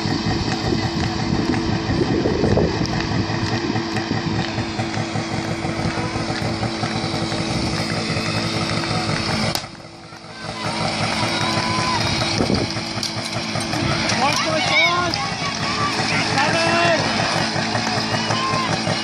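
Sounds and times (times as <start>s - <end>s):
small pump engine running: 0.0s - 19.0s.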